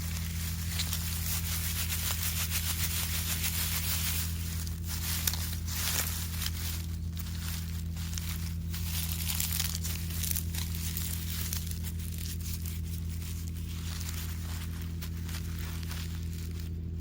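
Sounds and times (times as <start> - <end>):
campfire crackling: 0.0 - 17.0
low hum: 0.0 - 17.0.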